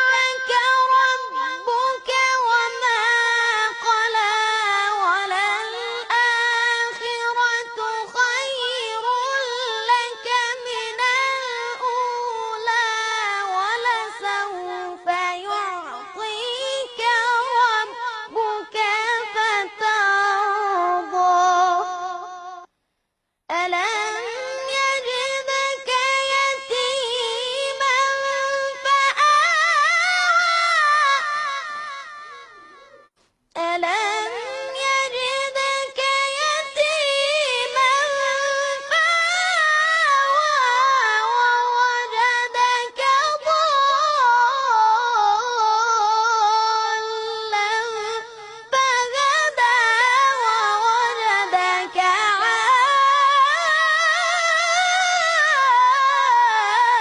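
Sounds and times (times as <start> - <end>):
boy chanting recitation: 0.0 - 22.7, 23.5 - 57.0.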